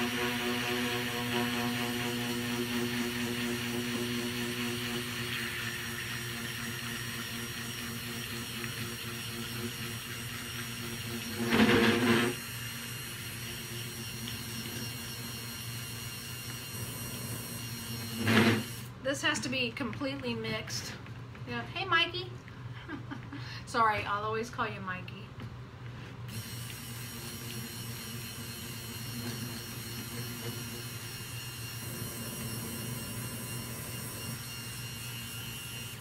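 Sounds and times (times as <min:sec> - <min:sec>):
stick blender motor hum: 0:00.0 - 0:19.0, 0:25.9 - 0:36.0.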